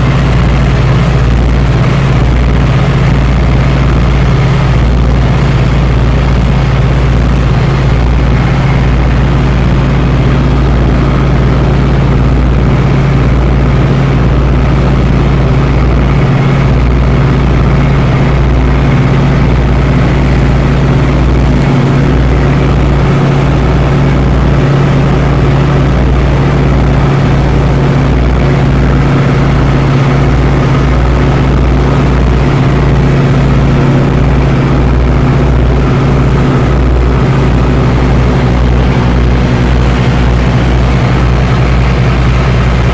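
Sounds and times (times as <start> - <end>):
airplane propeller engines droning: 0.0 - 42.9.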